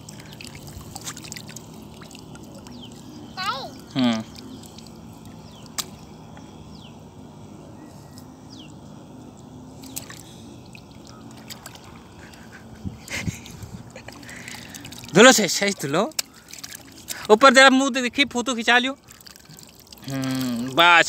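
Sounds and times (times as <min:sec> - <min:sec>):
muddy water sloshing: 0:00.0 - 0:06.8, 0:09.4 - 0:21.0
steady low hum: 0:00.0 - 0:21.0.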